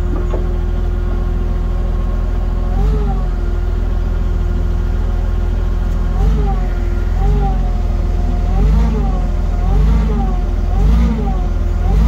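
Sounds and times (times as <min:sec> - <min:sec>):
forklift engine idling: 0:00.0 - 0:12.0.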